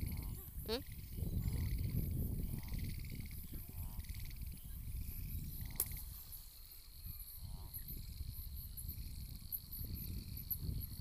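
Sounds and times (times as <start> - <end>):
insects chirping: 0.0 - 11.0
wind rumbling on microphone: 0.0 - 11.0.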